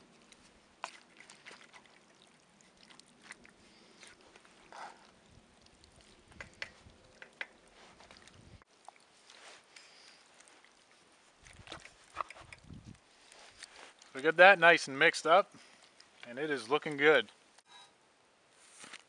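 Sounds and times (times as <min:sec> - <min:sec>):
wet stirring of thick food: 0:00.0 - 0:17.2.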